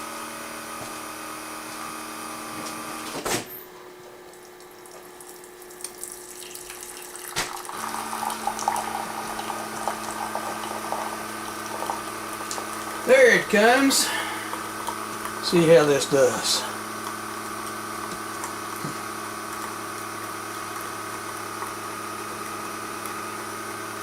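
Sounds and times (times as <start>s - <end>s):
coffee maker humming: 0.0s - 24.0s.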